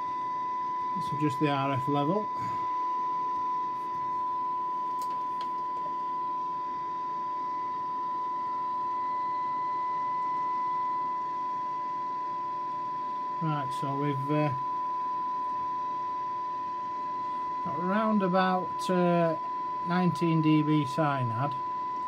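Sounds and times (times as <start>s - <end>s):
receiver hiss: 0.0s - 7.0s, 11.2s - 22.0s
steady test tone: 0.0s - 22.0s.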